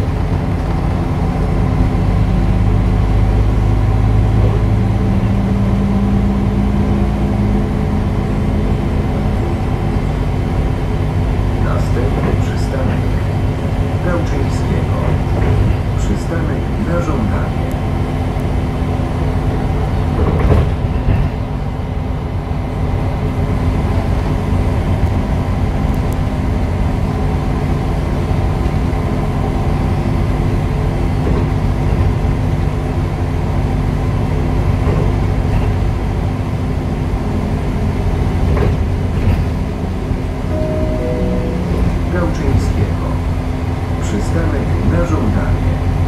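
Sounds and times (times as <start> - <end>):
bus diesel engine hum: 0.0 - 46.0.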